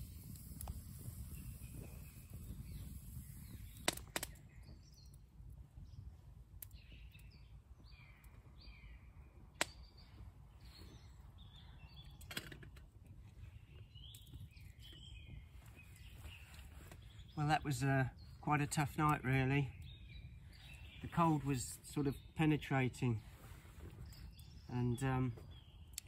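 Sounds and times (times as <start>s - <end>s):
small birds chirping: 0.0s - 26.0s
wood fire popping: 0.0s - 26.0s.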